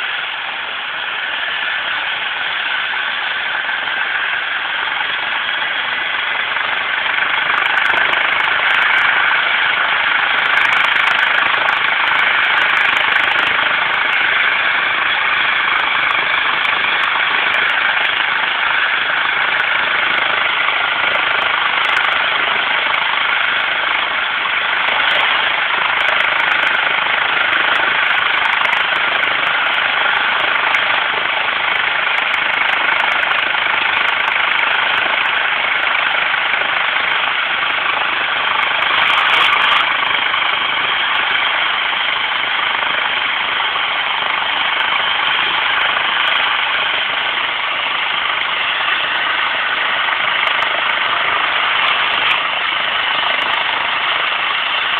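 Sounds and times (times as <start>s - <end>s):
helicopter turbine whine and rotor: 0.0s - 54.9s.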